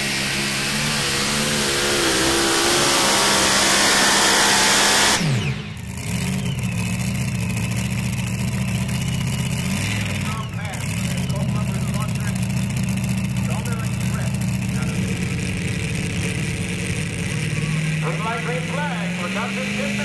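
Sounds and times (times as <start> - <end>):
truck engine at full throttle: 0.0 - 20.0.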